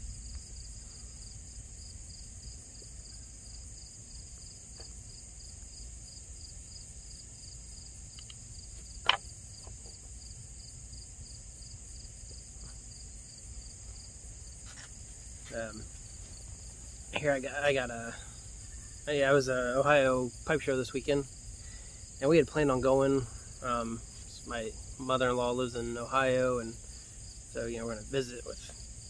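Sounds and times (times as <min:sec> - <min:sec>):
low steady rumble: 0:00.0 - 0:28.6
crickets trilling: 0:00.0 - 0:29.0.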